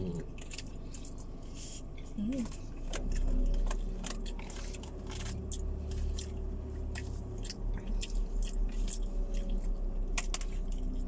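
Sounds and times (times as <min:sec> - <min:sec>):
chewing and eating: 0:00.0 - 0:11.0
low hum: 0:00.0 - 0:11.0.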